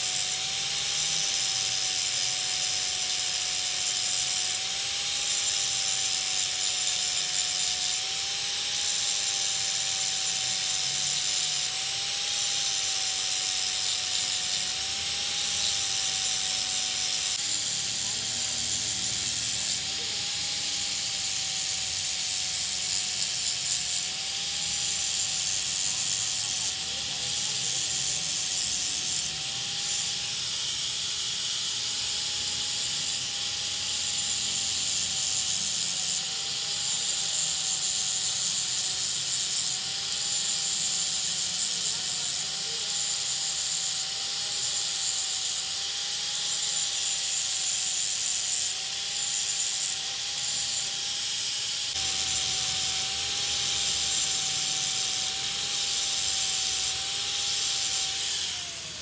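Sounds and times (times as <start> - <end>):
metalworking machine whining: 0.0 - 59.0.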